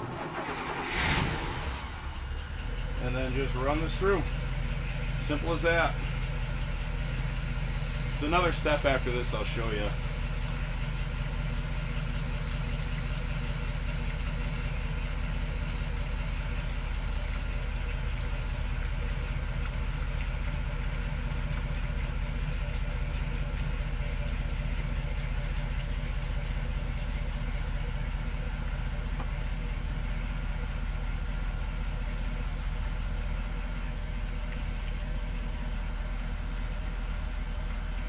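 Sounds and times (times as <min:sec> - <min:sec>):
boat engine idling: 0:00.0 - 0:38.0.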